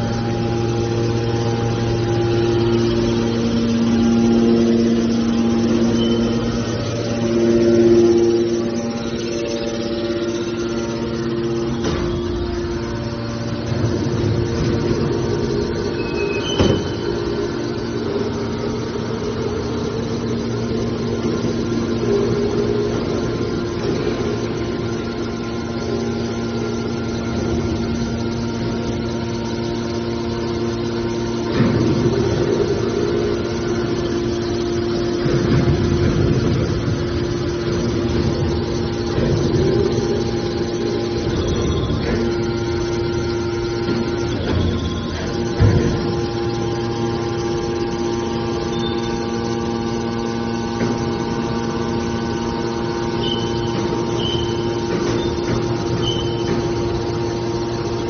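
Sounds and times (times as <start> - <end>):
hydraulic baler humming and rumbling: 0.0 - 58.0.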